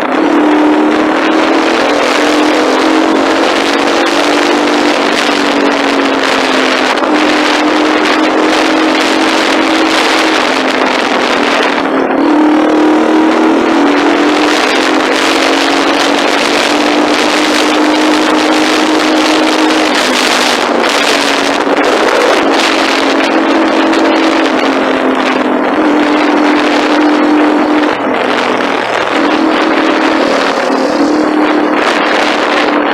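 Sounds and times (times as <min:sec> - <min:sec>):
strong rushing noise: 0:00.0 - 0:32.9
vehicle engine droning: 0:00.0 - 0:32.9.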